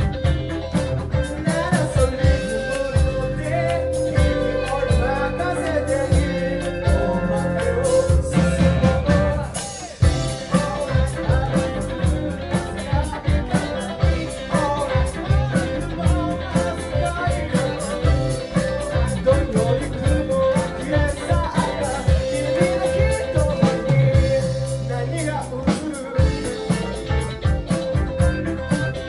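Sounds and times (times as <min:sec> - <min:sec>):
bass: 0:00.0 - 0:29.0
drum beat: 0:00.0 - 0:29.0
guitar: 0:00.0 - 0:29.0
person singing: 0:00.0 - 0:29.0.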